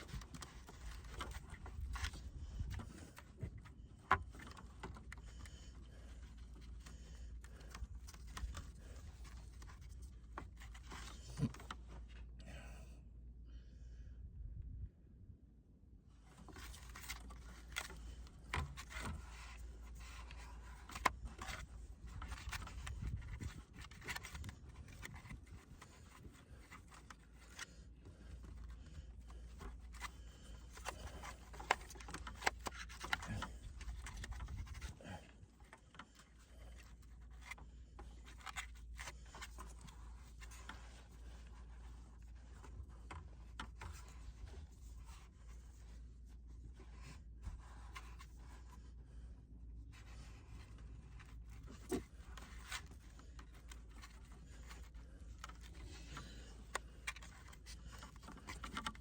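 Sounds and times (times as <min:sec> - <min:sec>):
scraping and rustling: 0:00.0 - 0:12.4, 0:16.2 - 0:59.0.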